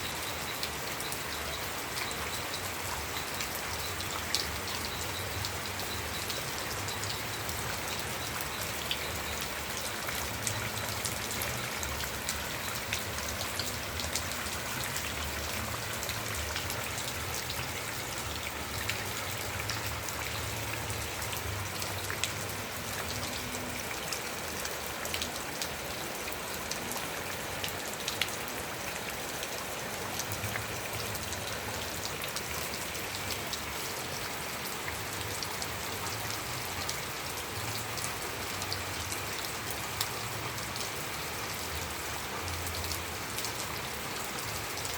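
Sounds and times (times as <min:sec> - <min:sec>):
rain falling: 0:00.0 - 0:44.9
raindrops ticking: 0:00.0 - 0:44.9.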